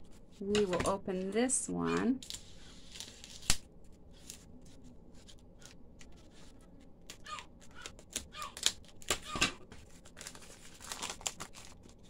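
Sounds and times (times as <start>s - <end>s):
plastic wrap crinkling: 2.0s - 12.0s.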